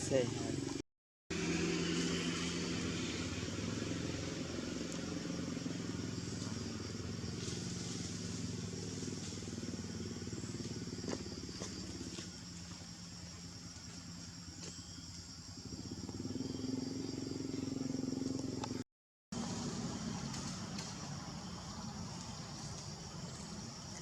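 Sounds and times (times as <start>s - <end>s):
vehicle engine running: 0.1s - 24.0s.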